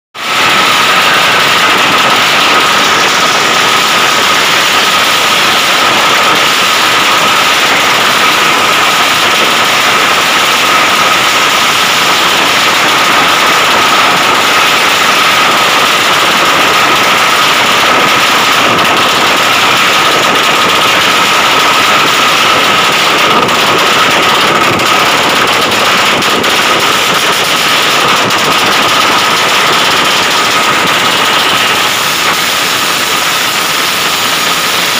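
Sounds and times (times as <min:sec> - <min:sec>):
motorcycle engine revving high: 0:00.2 - 0:34.9.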